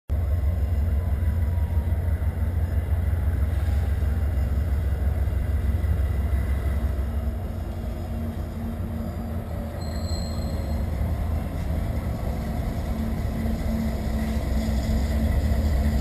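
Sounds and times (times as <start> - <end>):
diesel locomotive drone: 0.1 - 16.0.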